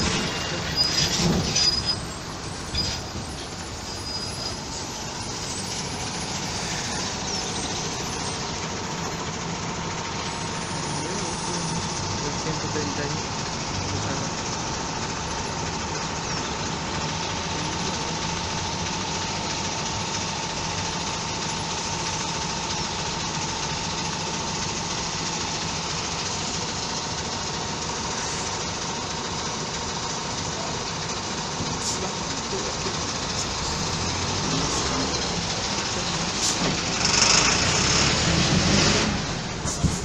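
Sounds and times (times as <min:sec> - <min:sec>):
bus diesel engine idling: 0:00.0 - 0:40.0.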